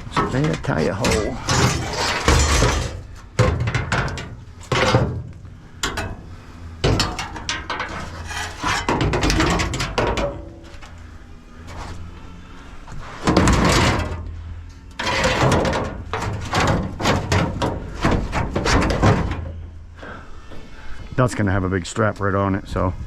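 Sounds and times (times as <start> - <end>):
scrap metal knocks and clanks: 0.0 - 12.1, 12.9 - 20.8.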